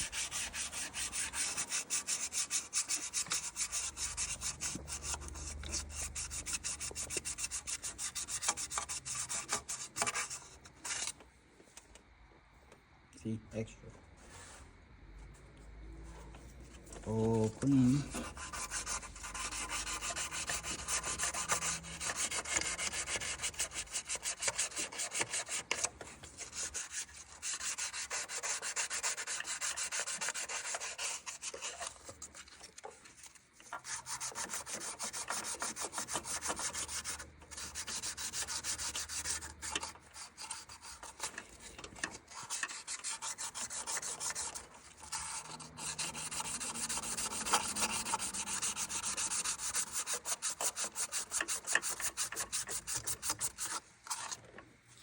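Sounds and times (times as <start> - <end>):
sandpaper rasping on metal: 0.0 - 11.1, 17.1 - 32.5, 33.7 - 54.4.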